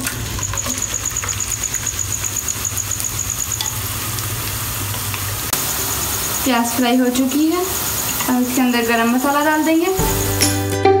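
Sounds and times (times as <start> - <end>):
onions sizzling in hot oil: 0.0 - 10.9.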